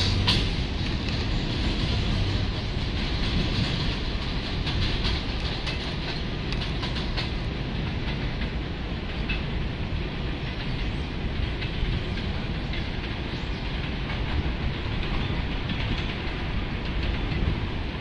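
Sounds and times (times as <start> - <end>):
subway train rumble: 0.0 - 18.0
wheels clicking over rail joints: 0.0 - 18.0.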